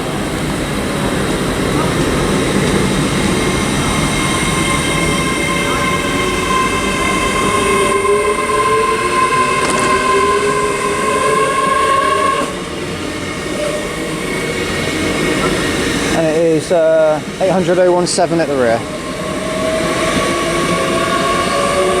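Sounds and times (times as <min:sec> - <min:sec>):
train whine rising in pitch: 0:00.0 - 0:22.0.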